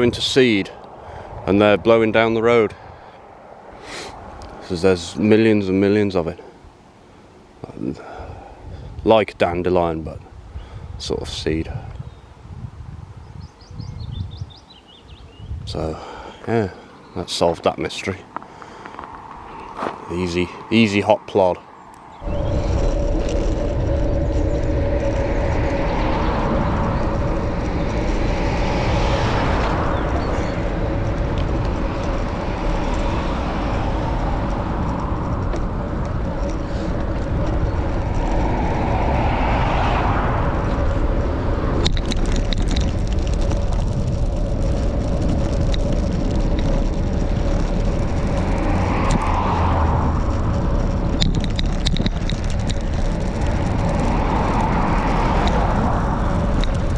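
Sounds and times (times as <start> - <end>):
wind rumble on microphone: 0.0 - 5.9, 7.6 - 16.3, 22.0 - 56.9
bicycle tyre road noise: 0.0 - 56.9.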